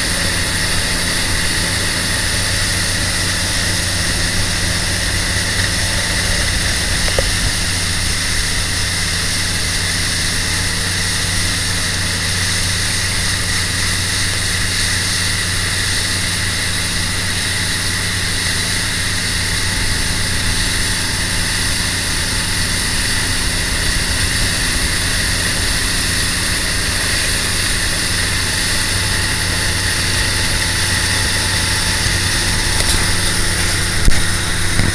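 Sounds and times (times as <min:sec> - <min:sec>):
motorboat engine running: 0:00.0 - 0:34.9
rushing water hiss: 0:00.0 - 0:34.9.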